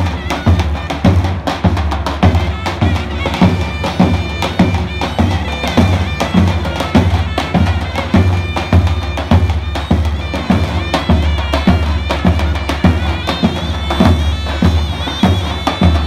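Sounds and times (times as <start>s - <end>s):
reedy wind instrument melody: 0.0s - 16.0s.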